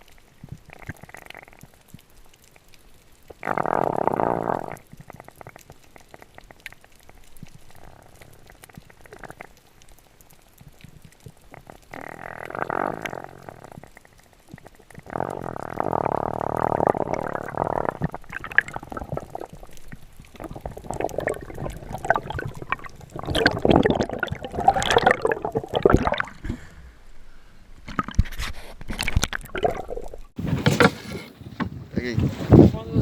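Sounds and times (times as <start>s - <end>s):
water sloshing and gurgling: 4.5s - 32.6s.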